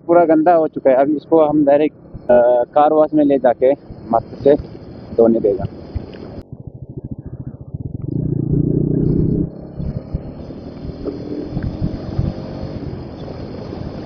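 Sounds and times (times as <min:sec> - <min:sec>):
motorcycle engine running: 0:01.0 - 0:14.0.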